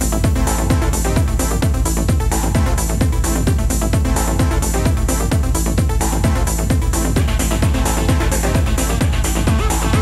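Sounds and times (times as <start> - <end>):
electronic dance music: 0.0 - 10.0
kick drum beat: 0.0 - 10.0.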